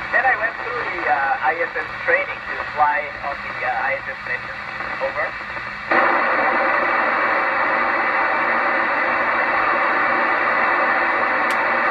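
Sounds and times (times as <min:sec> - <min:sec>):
radio static hiss: 0:00.0 - 0:11.9.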